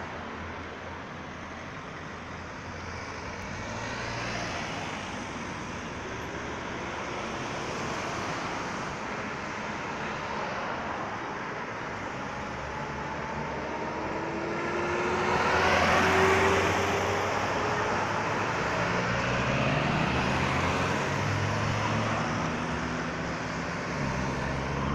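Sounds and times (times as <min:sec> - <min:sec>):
cars driving past: 0:02.8 - 0:24.9.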